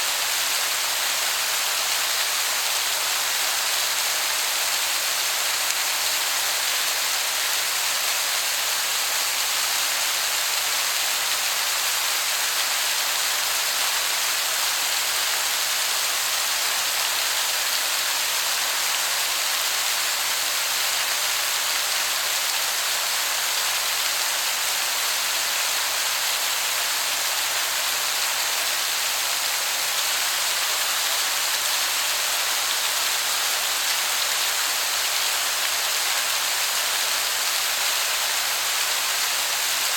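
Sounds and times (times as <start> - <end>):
distant waterfall rushing: 0.0 - 39.9.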